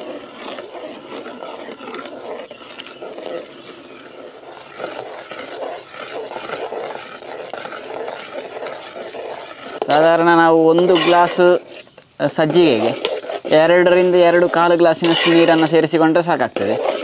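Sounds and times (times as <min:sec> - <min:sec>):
bubbling churning mixture: 0:00.0 - 0:17.0.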